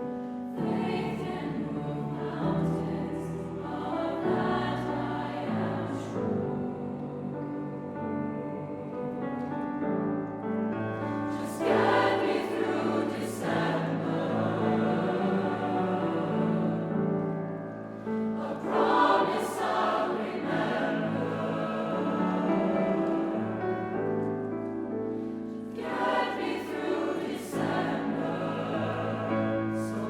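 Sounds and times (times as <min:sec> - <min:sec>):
choir singing held chords: 0:00.1 - 0:09.2, 0:11.0 - 0:24.4, 0:25.1 - 0:30.0.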